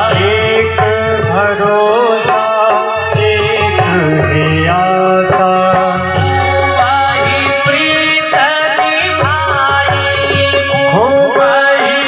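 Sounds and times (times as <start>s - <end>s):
hand drums: 0.0s - 12.0s
harmonium: 0.0s - 12.0s
man singing into microphone: 0.0s - 12.0s.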